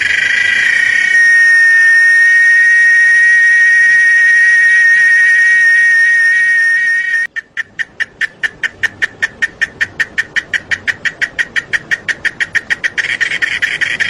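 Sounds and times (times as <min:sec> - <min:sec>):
cicadas buzzing and chirping: 0:00.0 - 0:14.0.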